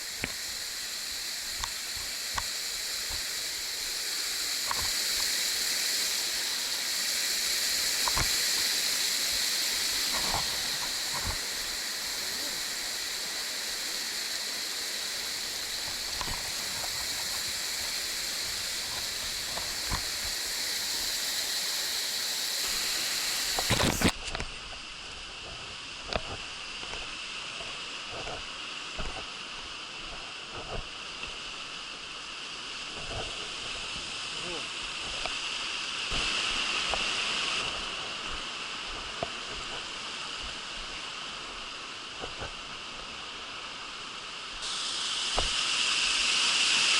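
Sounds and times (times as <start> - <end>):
waterfall rushing: 0.0 - 24.2, 25.8 - 46.9.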